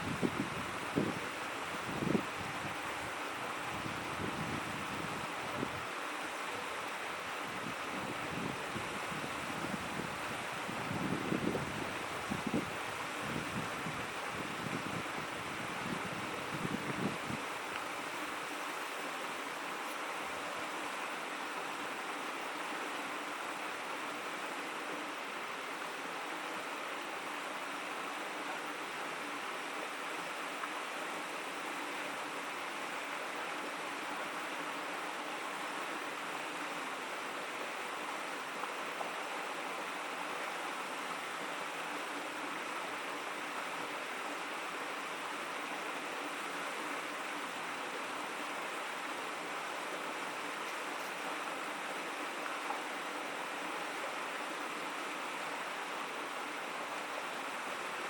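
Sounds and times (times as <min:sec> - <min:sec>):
river water babbling over stones: 0:00.0 - 0:58.0.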